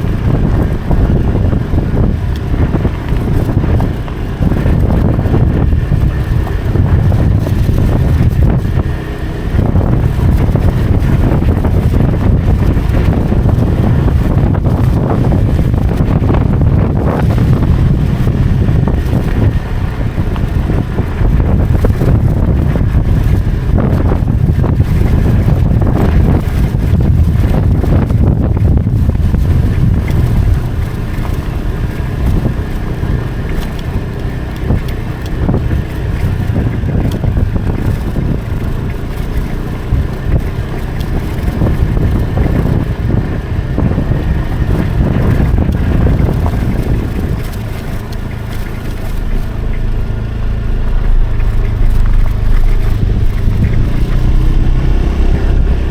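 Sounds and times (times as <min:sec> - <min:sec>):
motorcycle engine running: 0:00.0 - 0:55.9
wind on microphone: 0:00.0 - 0:55.9.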